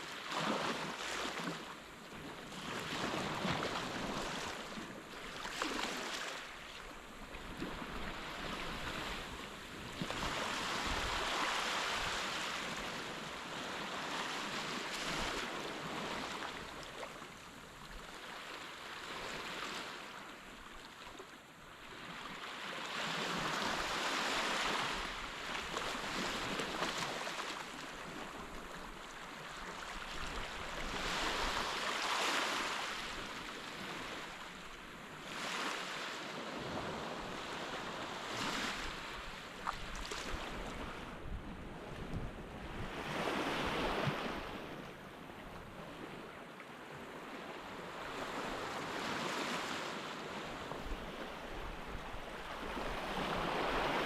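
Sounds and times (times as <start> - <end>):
waves washing onto beach: 0.0 - 54.0.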